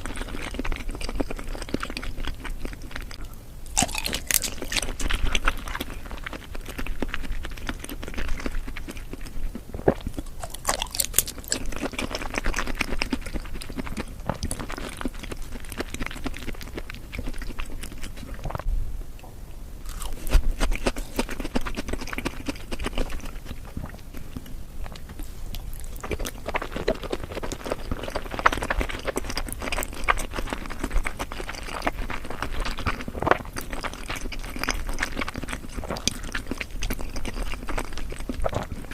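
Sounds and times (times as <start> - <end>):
chewing mouth clicks and smacks: 0.0 - 18.7, 19.9 - 38.9.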